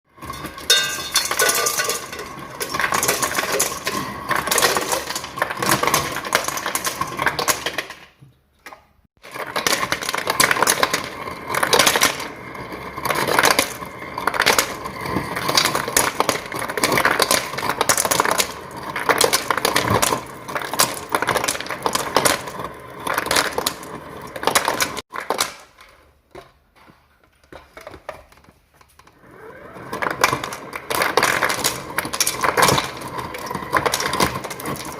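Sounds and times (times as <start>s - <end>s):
ice cubes clattering from dispenser: 0.1s - 8.2s, 9.2s - 25.9s, 29.2s - 34.9s.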